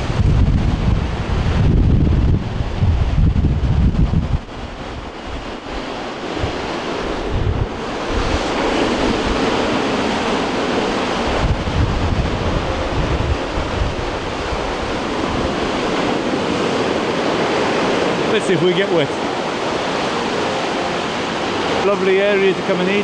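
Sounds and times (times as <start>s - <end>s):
waves breaking on beach: 0.0s - 23.0s
wind buffeting microphone: 0.0s - 23.0s.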